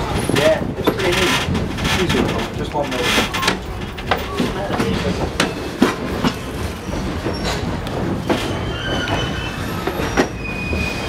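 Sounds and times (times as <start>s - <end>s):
train cars rumbling over track: 0.0s - 11.0s
wheels clanking and knocking: 0.0s - 11.0s
wheels squealing on rails: 0.0s - 11.0s.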